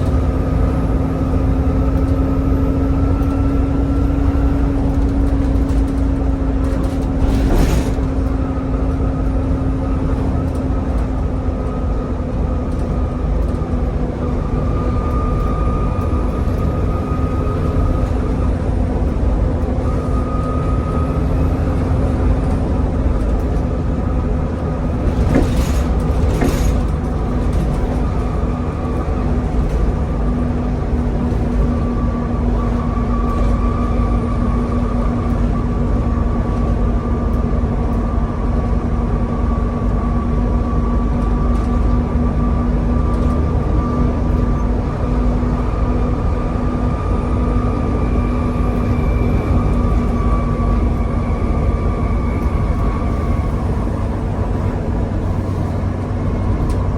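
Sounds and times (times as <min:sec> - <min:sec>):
bus engine drone: 0:00.0 - 0:56.9.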